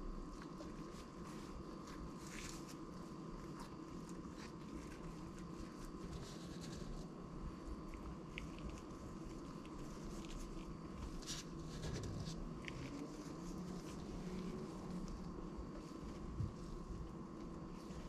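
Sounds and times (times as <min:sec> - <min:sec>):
faint steady hum: 0:00.0 - 0:18.0
gloved hands handling flatbread: 0:00.0 - 0:18.0.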